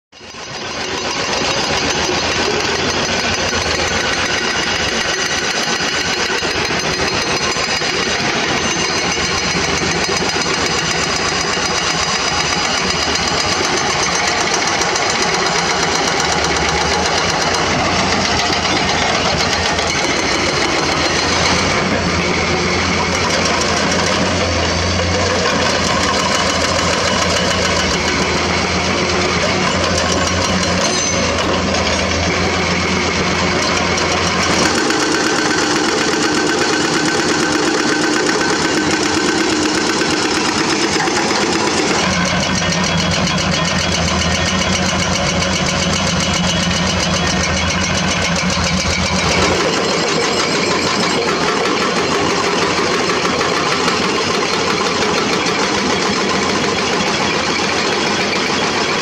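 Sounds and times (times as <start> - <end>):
diesel engine running: 0.2 - 59.0
hydraulic breaker hammering rock: 0.2 - 59.0.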